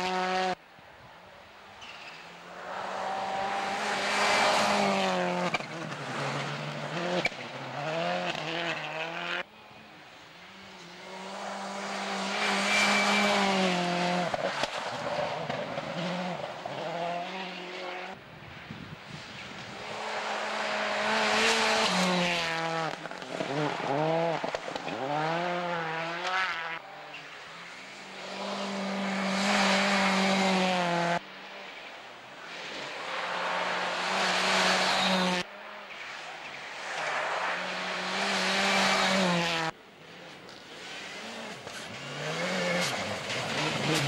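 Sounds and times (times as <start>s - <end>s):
rally cars passing at speed: 0.0s - 0.6s, 1.8s - 44.0s.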